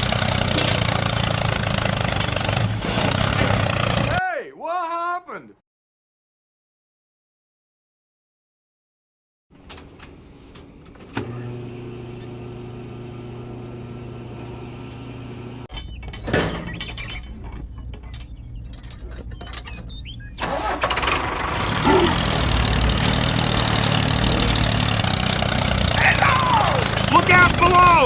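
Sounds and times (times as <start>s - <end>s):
tractor motor humming: 0.0s - 4.2s, 9.6s - 28.0s.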